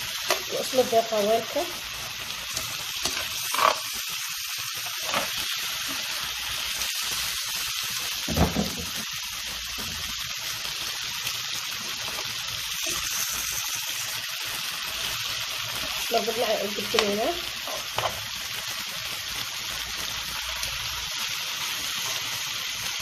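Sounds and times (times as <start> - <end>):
food sizzling on grill pan: 0.0 - 23.0.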